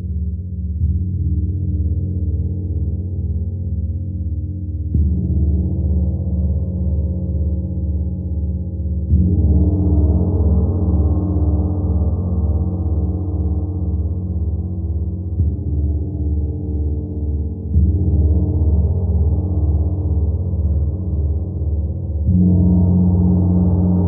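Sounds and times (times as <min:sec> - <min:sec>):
low pulsing gong hum: 0:00.0 - 0:24.0.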